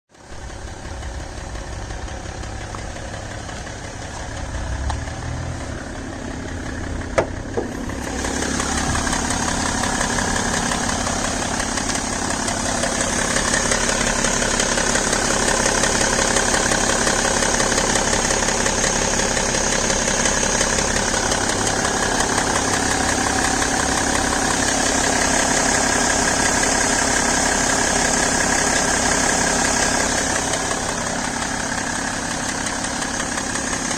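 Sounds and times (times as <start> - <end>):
diesel engine idling with ticking: 0.1 - 33.9.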